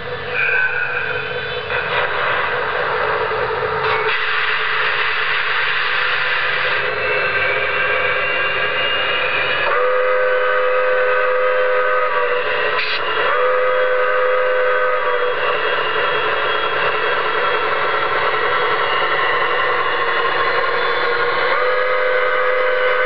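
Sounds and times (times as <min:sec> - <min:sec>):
model train steam whistle: 0:00.0 - 0:23.0.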